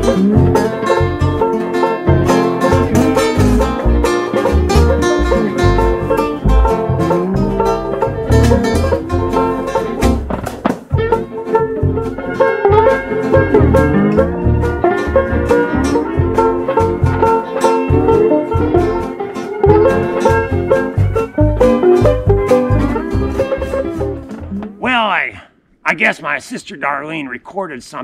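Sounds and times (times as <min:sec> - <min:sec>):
pulsing bass line: 0:00.0 - 0:10.3, 0:10.9 - 0:24.8
plucked-string picking: 0:00.0 - 0:24.8.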